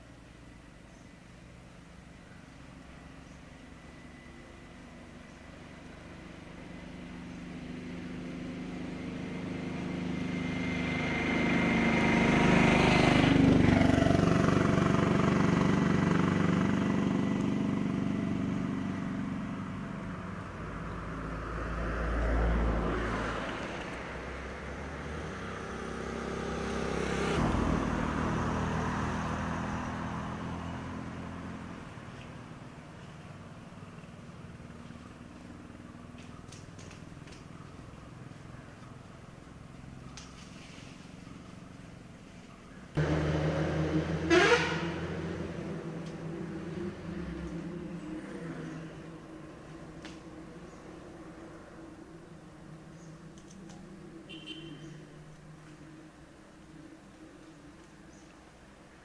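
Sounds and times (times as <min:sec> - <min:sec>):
vehicles passing by: 0:00.0 - 0:59.0.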